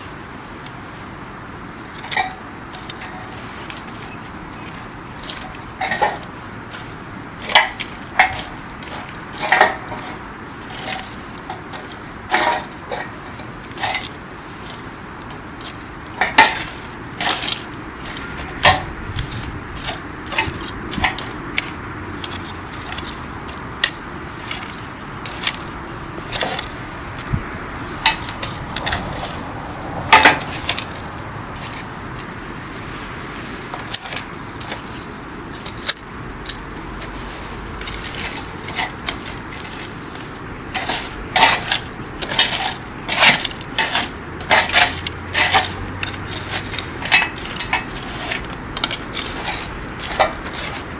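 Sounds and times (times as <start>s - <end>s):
campfire crackling and popping: 1.4s - 50.9s.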